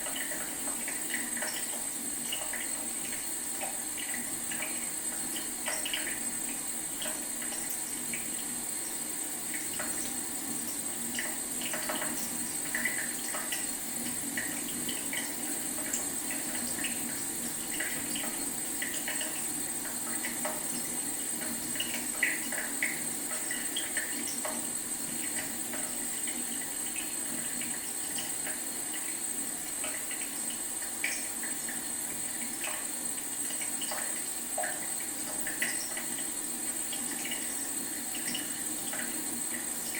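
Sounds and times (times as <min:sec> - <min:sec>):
faucet dripping: 0:00.0 - 0:39.9
trickling water hiss: 0:00.0 - 0:39.9.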